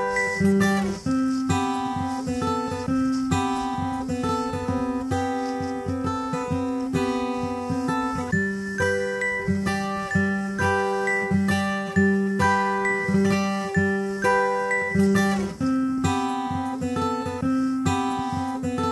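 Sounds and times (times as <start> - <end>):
acoustic guitar picking: 0.0 - 18.9.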